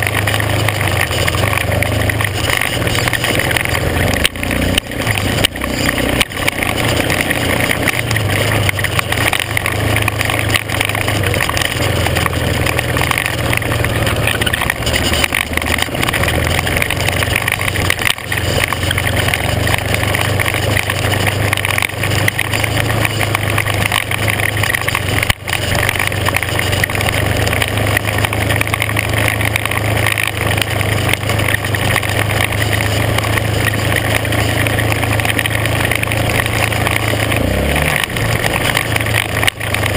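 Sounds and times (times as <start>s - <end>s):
gravel noise: 0.0s - 39.9s
off-road vehicle engine running: 0.0s - 39.9s.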